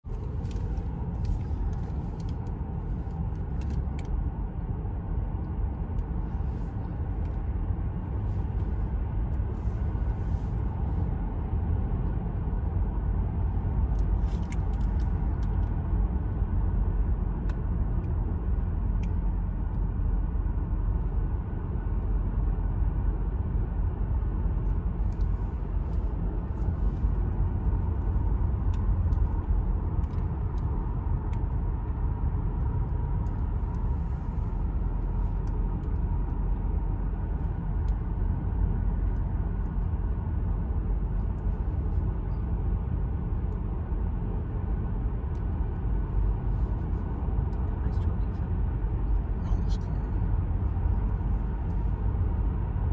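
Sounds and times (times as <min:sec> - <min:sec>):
car interior road rumble: 0:00.0 - 0:52.9.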